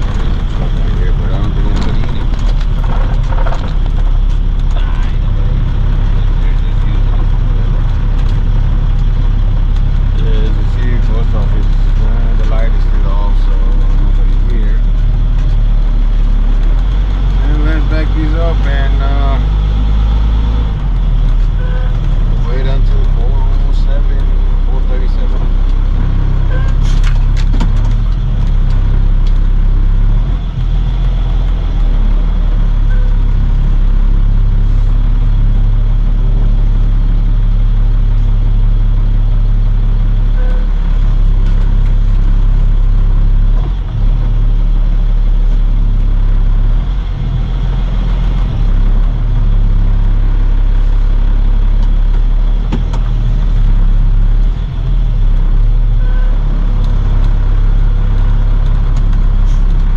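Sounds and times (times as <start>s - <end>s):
road noise: 0.0s - 59.9s
truck engine rumble: 0.0s - 59.9s.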